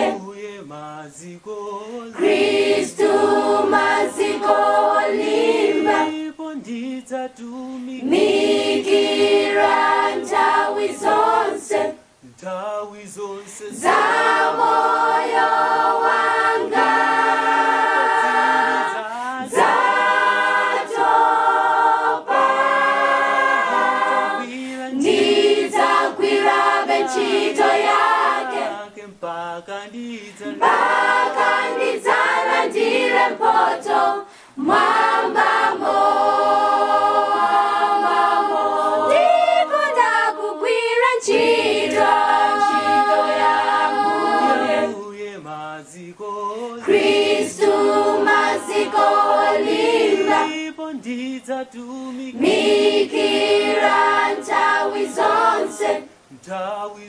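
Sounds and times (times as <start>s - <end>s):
choir singing a hymn a cappella: 0.0s - 57.0s.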